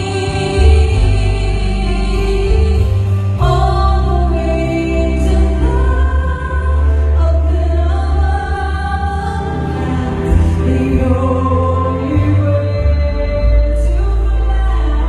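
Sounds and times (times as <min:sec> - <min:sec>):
steady bass: 0:00.0 - 0:15.0.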